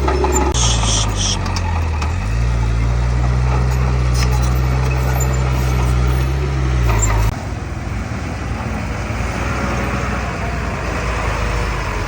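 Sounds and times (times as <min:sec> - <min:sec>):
diesel machinery droning: 0:00.0 - 0:12.0
rough engine rumble: 0:00.0 - 0:12.0.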